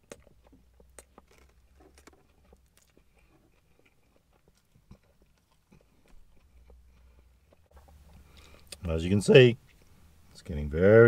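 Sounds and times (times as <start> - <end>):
faint chewing: 0.0 - 8.9, 9.6 - 10.1.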